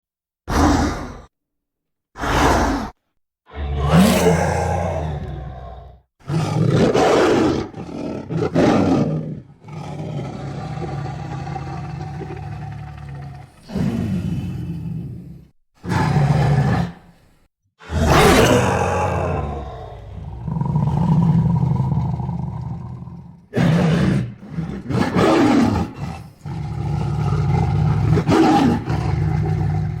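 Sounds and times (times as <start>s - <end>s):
tiger low growl: 0.5s - 1.3s, 2.2s - 17.0s, 17.8s - 30.0s
tiger roaring: 0.5s - 1.3s, 2.2s - 17.0s, 17.8s - 30.0s.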